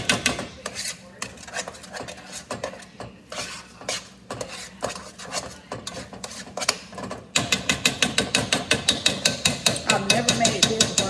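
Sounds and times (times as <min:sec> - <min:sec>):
utensil stirring in a pot: 0:00.0 - 0:11.0.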